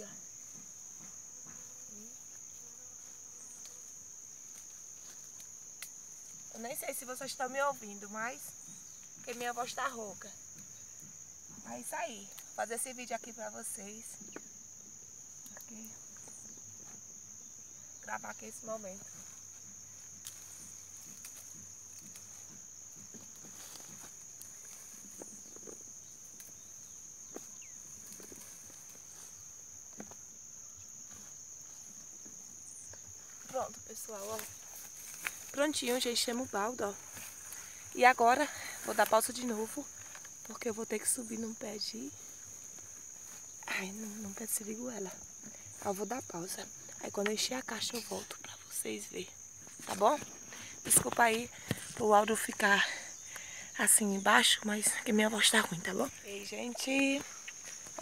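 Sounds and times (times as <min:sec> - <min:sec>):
high-pitched insect buzz: 0:00.0 - 0:58.0
leaves and branches rustling: 0:00.0 - 0:58.0.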